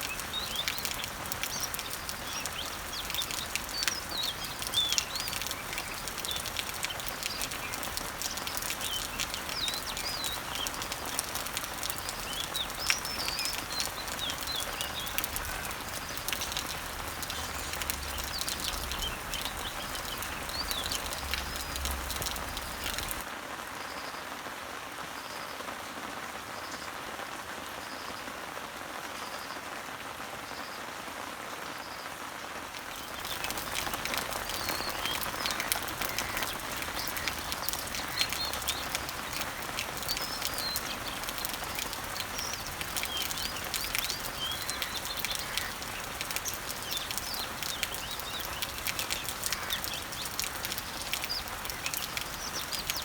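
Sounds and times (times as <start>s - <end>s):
birds chirping: 0.0s - 23.3s, 32.8s - 53.0s
dense dripping: 0.0s - 23.3s, 32.8s - 53.0s
rain falling on leaves: 0.0s - 53.0s.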